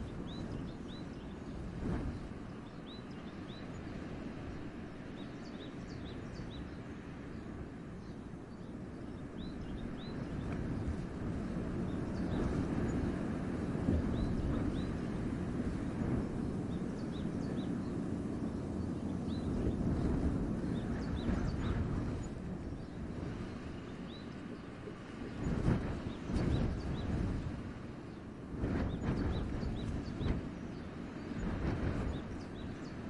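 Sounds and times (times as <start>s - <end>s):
wind through forest: 0.0s - 33.0s.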